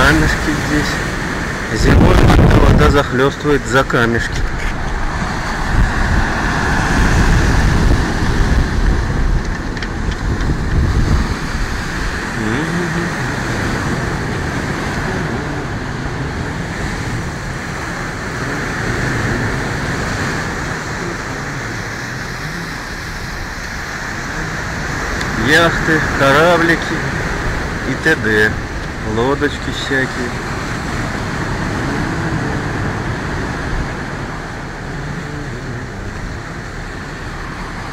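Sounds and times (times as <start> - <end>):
wind buffeting microphone: 0.0 - 29.2, 30.2 - 37.9
surf breaking over rocks: 0.0 - 37.9.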